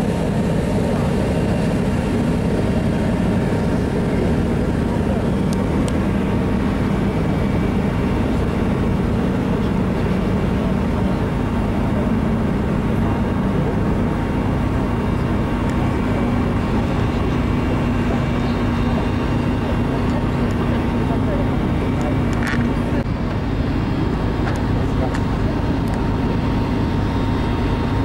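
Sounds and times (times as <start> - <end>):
ship machinery droning hum: 0.0 - 28.0.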